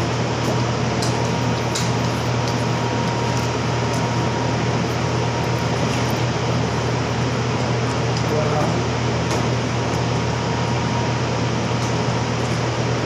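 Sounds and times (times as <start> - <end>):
air conditioner running: 0.0 - 13.0
faint steady whine: 0.0 - 13.0.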